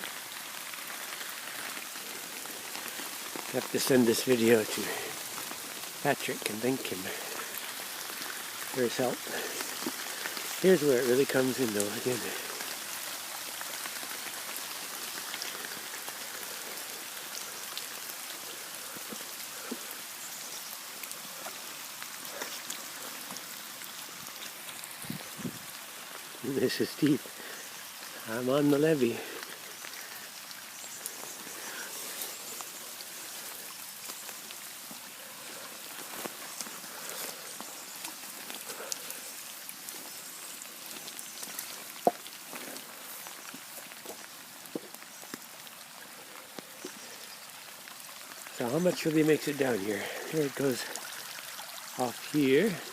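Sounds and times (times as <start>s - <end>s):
sharp taps of raindrops: 0.0s - 52.8s
heavy rain falling: 0.0s - 52.9s.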